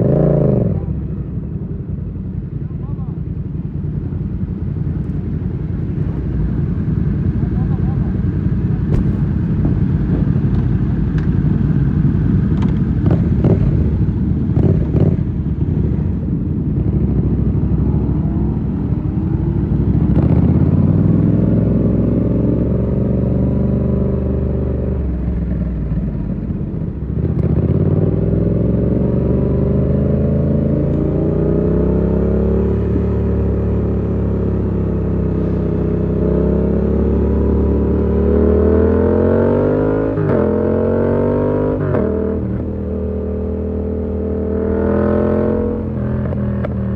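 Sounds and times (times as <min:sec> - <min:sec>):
motorcycle engine revving: 0:03.0 - 0:46.9.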